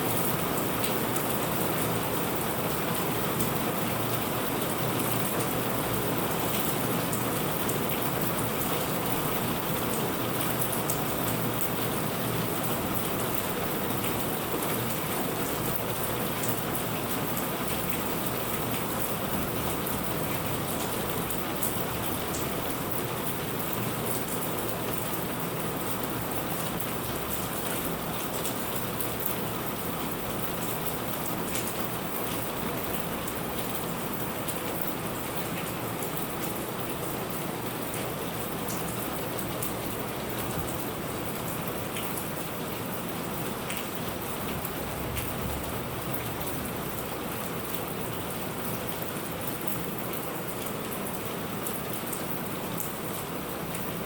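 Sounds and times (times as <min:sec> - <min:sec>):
raindrops ticking on a surface: 0:00.0 - 0:54.0.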